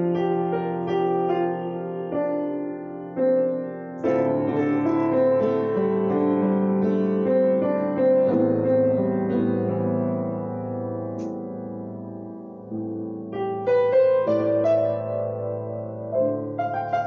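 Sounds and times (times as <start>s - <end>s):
grand piano chords ringing: 0.0s - 17.0s.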